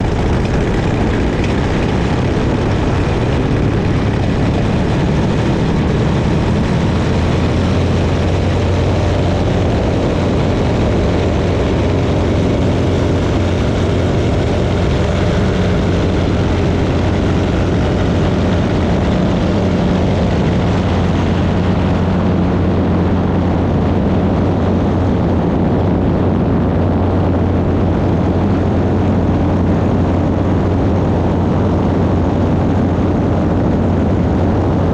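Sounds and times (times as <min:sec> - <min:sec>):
propeller airplane engine drone: 0:00.0 - 0:34.9.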